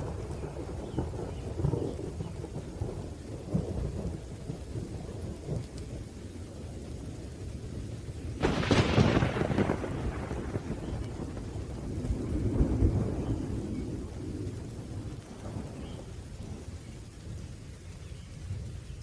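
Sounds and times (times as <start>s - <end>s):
rain: 0.0s - 19.0s
thunder rumbling: 0.0s - 19.0s.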